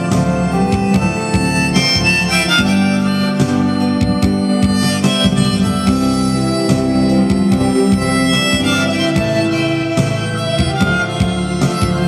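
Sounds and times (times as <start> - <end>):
harmonica melody: 0.0 - 12.0
musical accompaniment: 0.0 - 12.0.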